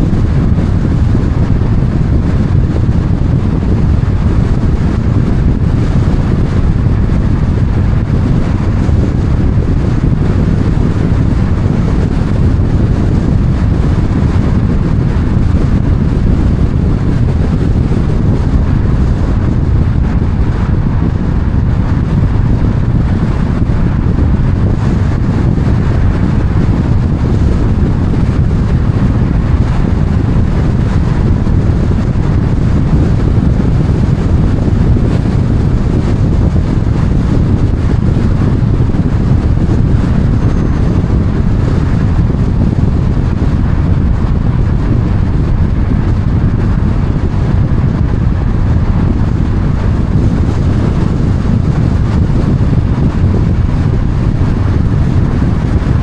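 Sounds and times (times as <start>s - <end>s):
vehicle running: 0.0s - 56.0s
wind noise on microphone: 0.0s - 56.0s.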